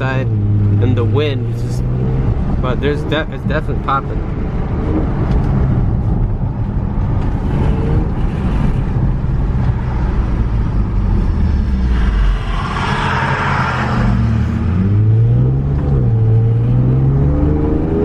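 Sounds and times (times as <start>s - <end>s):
car engine and exhaust drone: 0.0s - 18.0s
road and wind noise: 0.0s - 18.0s.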